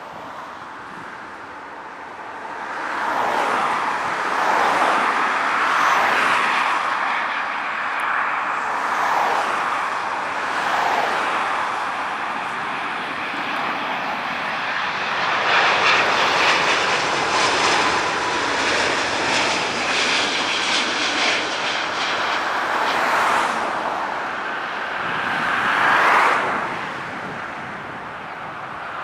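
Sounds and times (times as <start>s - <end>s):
jet engine rush with whine: 0.0s - 29.0s.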